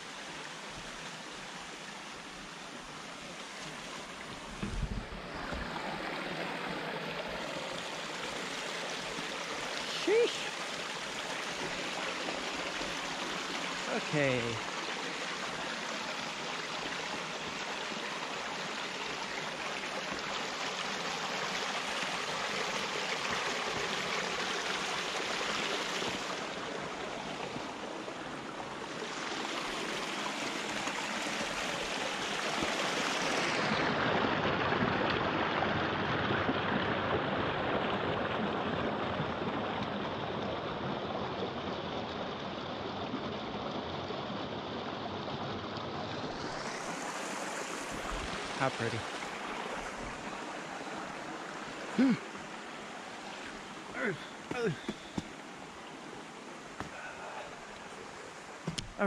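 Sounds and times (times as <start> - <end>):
flowing creek water: 0.0 - 59.0.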